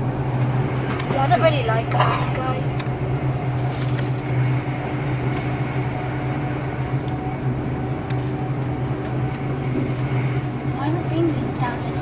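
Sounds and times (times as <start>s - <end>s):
train cabin hum: 0.0s - 12.0s.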